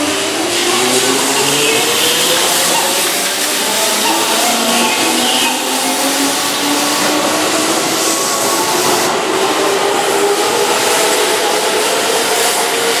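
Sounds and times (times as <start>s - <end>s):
train running and wheel noise: 0.0s - 13.0s.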